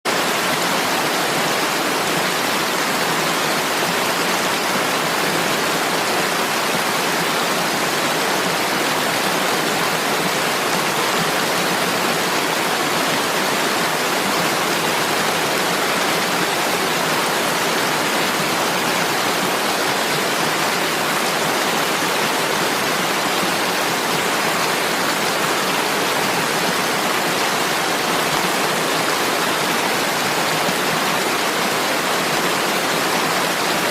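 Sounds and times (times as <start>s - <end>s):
rushing water: 0.1s - 33.9s.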